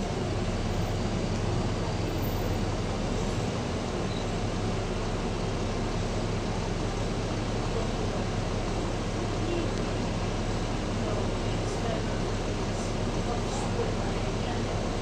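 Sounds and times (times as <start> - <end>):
bus diesel engine idling: 0.0 - 15.0.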